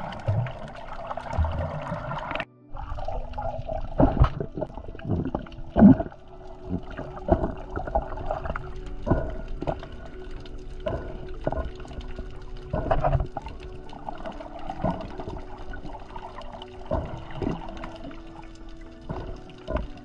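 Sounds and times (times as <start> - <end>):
muffled underwater sloshing: 0.0 - 20.0.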